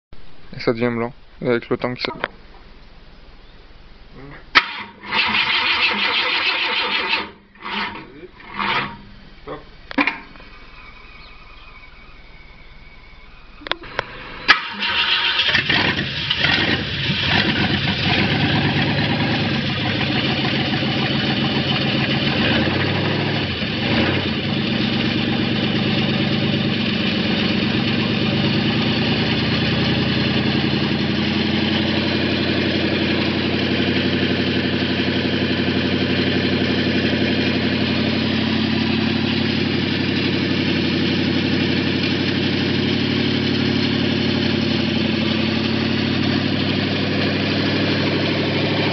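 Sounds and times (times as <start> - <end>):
engine starting and idling: 4.5 - 12.2, 13.6 - 48.9.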